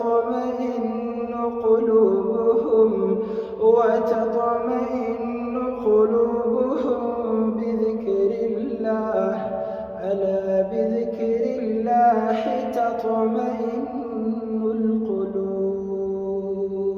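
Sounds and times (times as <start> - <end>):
man reciting melodically: 0.0 - 16.9.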